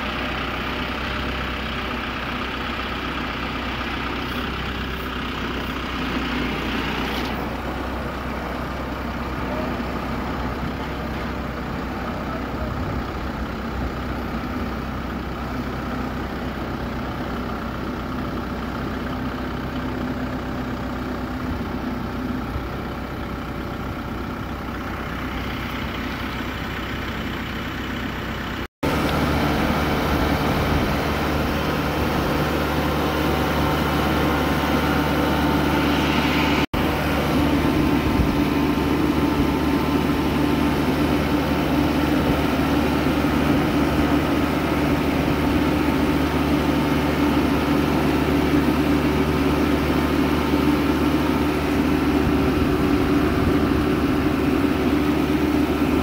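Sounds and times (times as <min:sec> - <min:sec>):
diesel tractor engines running: 0:00.0 - 0:56.0.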